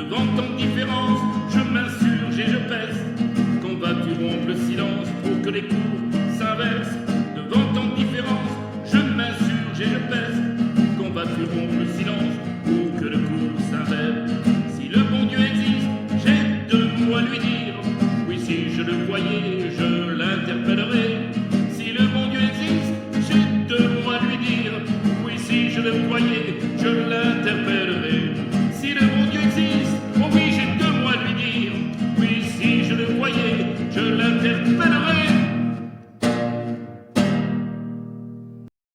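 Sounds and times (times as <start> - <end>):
guitar melody: 0.0 - 38.7.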